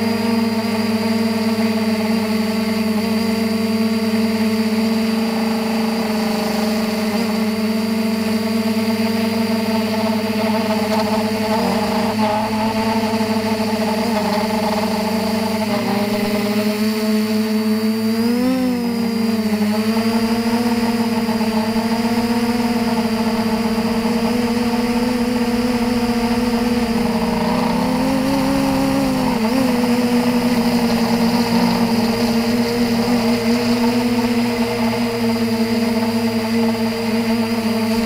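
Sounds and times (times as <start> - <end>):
quadcopter propellers buzzing: 0.0 - 38.0.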